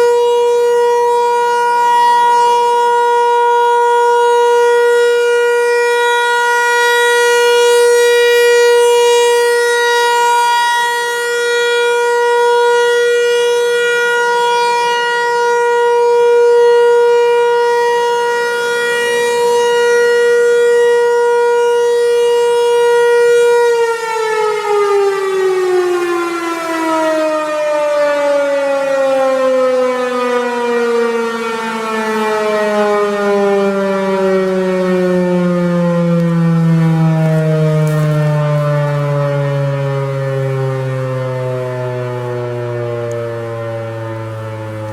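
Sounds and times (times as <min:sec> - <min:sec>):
dual-tone warning siren: 0:00.0 - 0:44.9.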